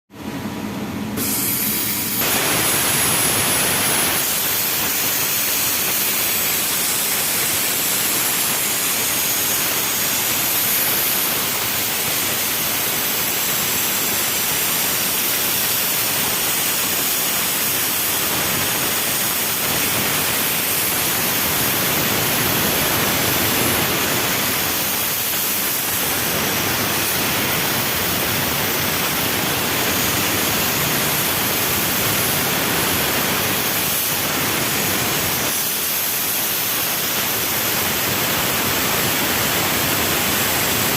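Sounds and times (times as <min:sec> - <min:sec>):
plasma cutter arc hissing: 0:01.2 - 0:40.9.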